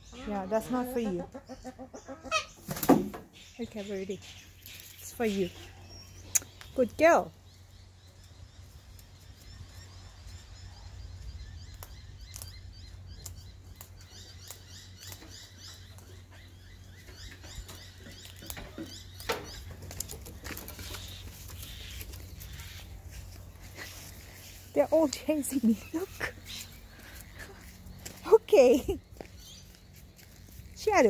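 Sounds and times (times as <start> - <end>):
small birds twittering: 0.0 - 31.0.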